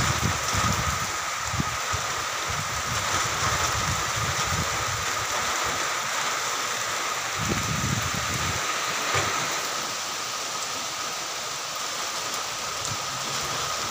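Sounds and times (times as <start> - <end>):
light rain on leaves: 0.0 - 13.9.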